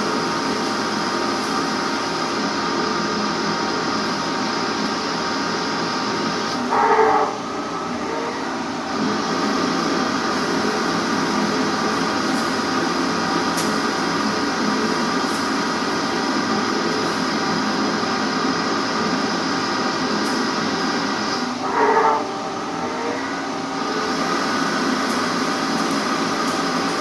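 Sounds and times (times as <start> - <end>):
machine tool humming and whining: 0.0 - 27.0.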